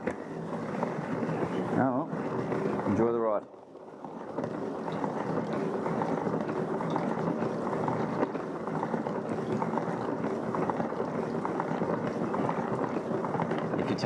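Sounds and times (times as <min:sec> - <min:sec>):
spinning drum whirring: 0:00.0 - 0:14.0.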